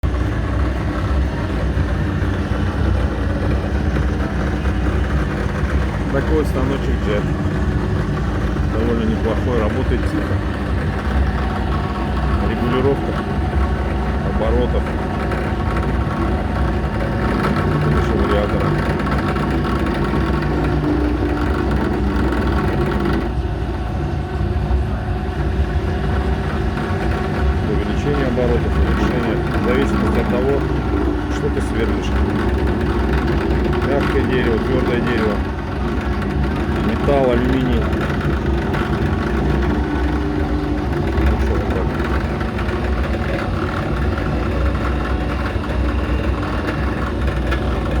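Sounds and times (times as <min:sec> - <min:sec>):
drill press motor hum: 0:00.0 - 0:48.0.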